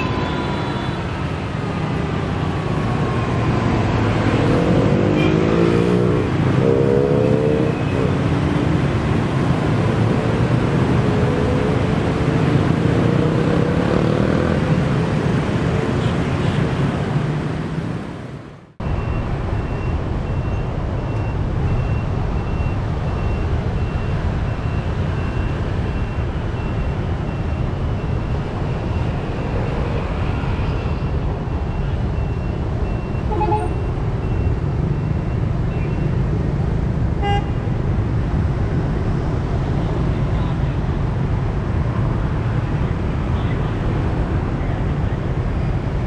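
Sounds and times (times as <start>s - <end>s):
motorbikes and cars passing: 0.0s - 46.0s.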